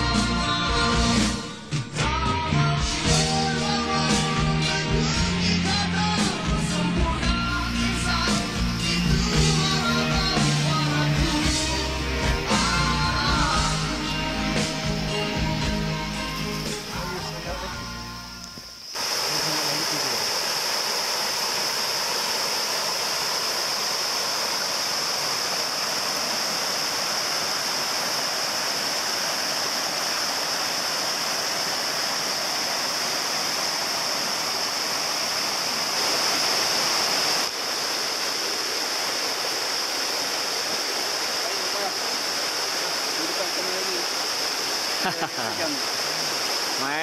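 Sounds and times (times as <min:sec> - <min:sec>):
stream rushing over rocks: 0:03.0 - 0:47.0.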